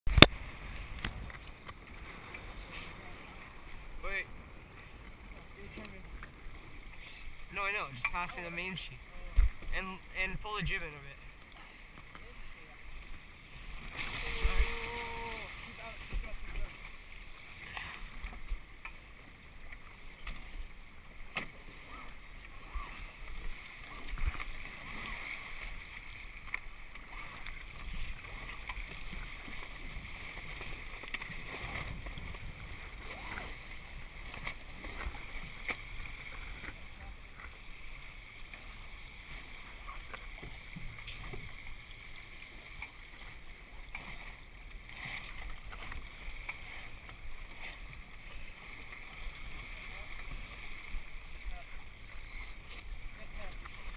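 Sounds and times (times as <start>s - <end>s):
water rushing along boat hull: 0.1s - 53.9s.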